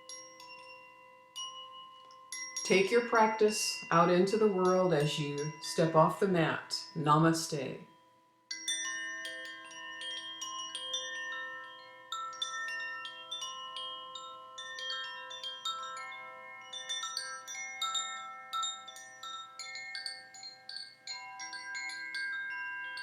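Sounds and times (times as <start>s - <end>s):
wind chimes tinkling: 0.0s - 23.0s.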